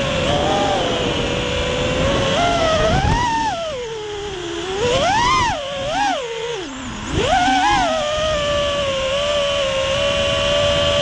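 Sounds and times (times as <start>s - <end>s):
drone motors whining: 0.0s - 11.0s
wind noise on microphone: 0.0s - 11.0s.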